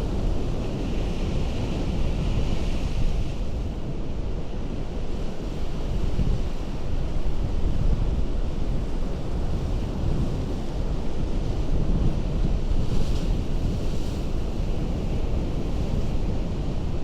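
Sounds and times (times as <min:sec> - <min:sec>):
ocean surf on rocky shore: 0:00.0 - 0:17.0.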